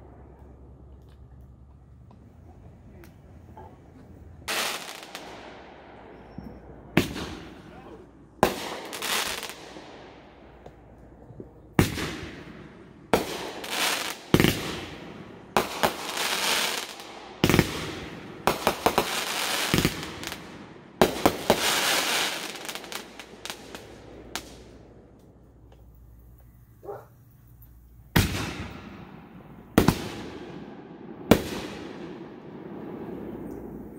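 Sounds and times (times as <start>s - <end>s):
fireworks crackling: 0.0s - 33.9s
fireworks bangs: 1.9s - 33.9s.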